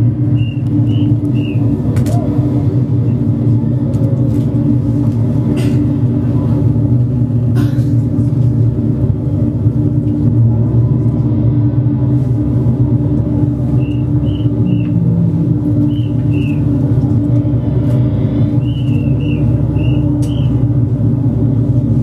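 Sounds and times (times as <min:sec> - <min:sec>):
low droning hum: 0:00.0 - 0:22.0.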